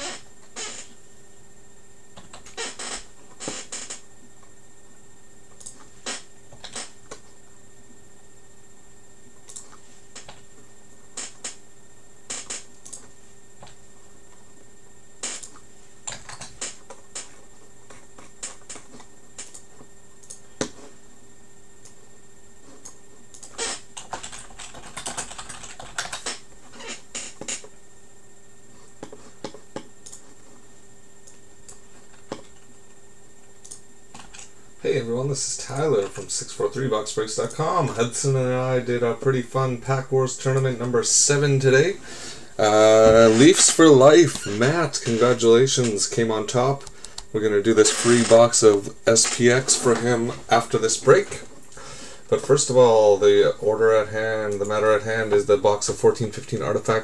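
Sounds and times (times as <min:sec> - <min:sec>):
faint electrical hum: 0:00.0 - 0:57.0.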